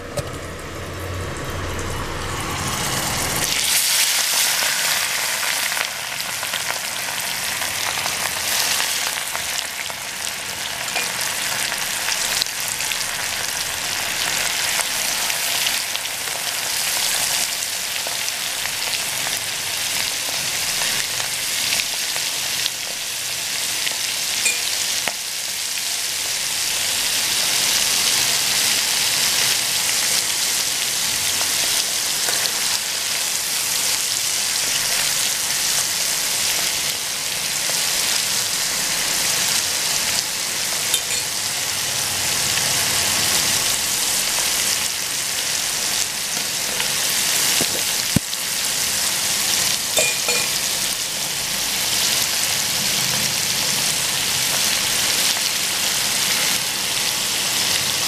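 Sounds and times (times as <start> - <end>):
prawns sizzling in hot oil: 1.2 - 58.0.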